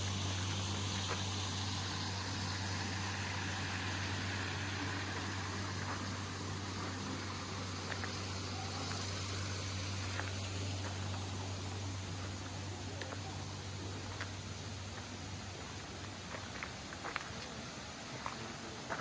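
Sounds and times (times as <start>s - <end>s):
stream flowing over rocks: 0.0s - 19.0s.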